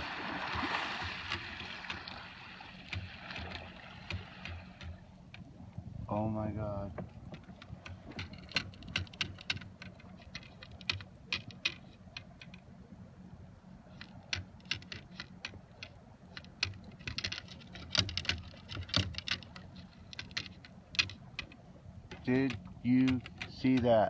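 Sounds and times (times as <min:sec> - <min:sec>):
waves lapping against kayak hull: 0:00.0 - 0:12.8, 0:13.8 - 0:24.0.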